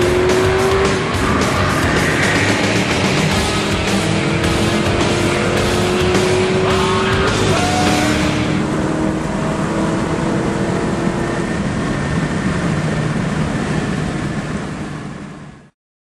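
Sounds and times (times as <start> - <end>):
car engine accelerating: 0.0 - 15.7.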